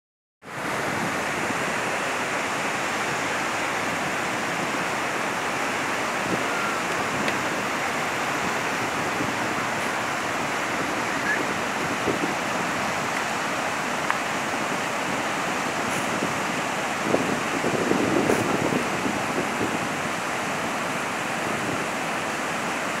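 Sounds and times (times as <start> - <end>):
rushing falling water: 0.4 - 23.0.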